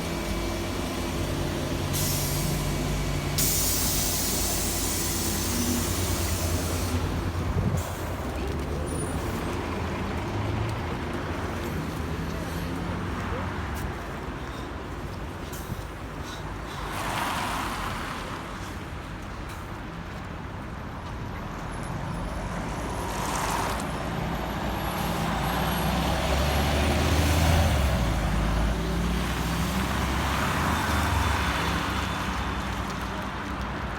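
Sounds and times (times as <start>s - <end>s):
bus engine hum: 0.0s - 17.2s, 21.3s - 33.9s
road noise: 0.0s - 33.9s.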